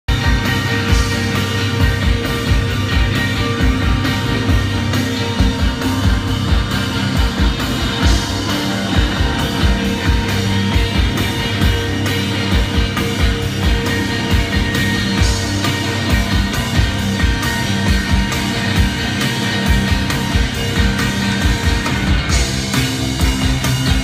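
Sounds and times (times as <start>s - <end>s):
distorted electric guitars: 0.0s - 24.0s
steady drum beat: 0.1s - 24.0s.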